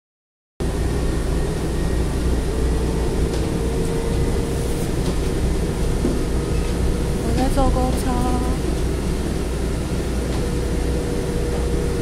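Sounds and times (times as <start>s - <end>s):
vehicle road and engine rumble: 0.6s - 12.0s.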